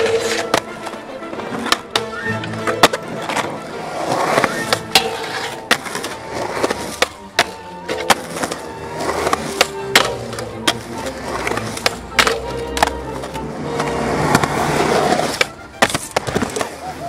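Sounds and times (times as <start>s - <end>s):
music: 0.0s - 17.0s
skateboard clacks: 0.0s - 17.0s
skateboard wheels rolling on concrete: 0.0s - 17.0s.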